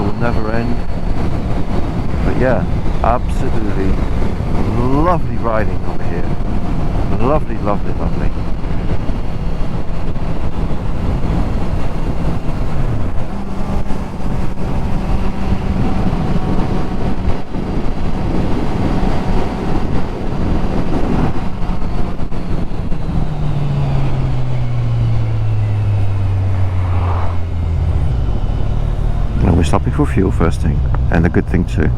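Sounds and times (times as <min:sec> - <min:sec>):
motorcycle engine cruising: 0:00.0 - 0:31.9
wind noise rushing: 0:00.0 - 0:31.9.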